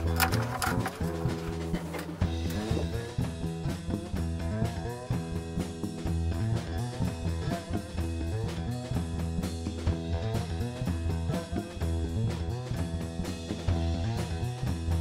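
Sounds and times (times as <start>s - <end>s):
blues-rock music with guitar: 0.0s - 15.0s.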